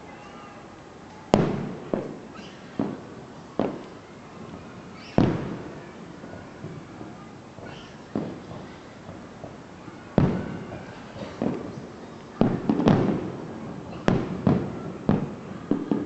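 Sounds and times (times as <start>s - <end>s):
firework shells booming: 1.3s - 4.0s, 5.0s - 16.0s.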